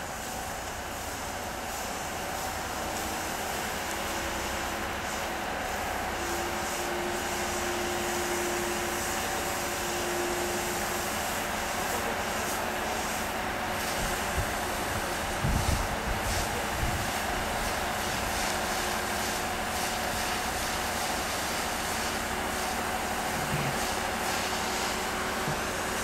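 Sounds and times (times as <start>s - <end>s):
hoses spraying water: 0.0s - 26.0s
pump humming: 0.0s - 26.0s.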